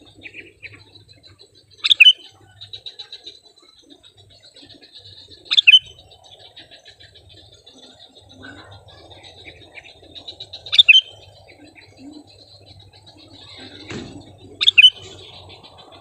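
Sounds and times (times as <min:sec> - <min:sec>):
bird calling: 0:00.0 - 0:16.0
small bird chirps: 0:00.0 - 0:16.0.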